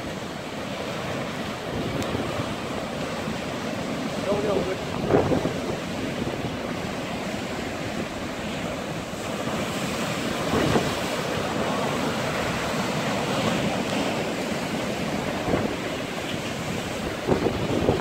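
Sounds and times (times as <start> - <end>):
heavy surf breaking on rocks: 0.0 - 18.0.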